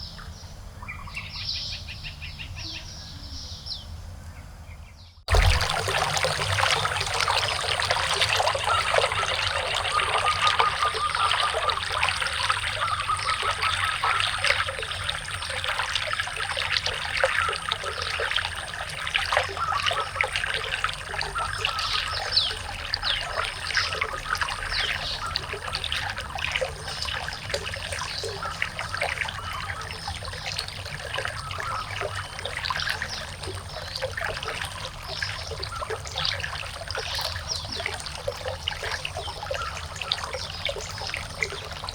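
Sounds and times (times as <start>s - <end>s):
water trickling and splashing: 5.3s - 41.9s.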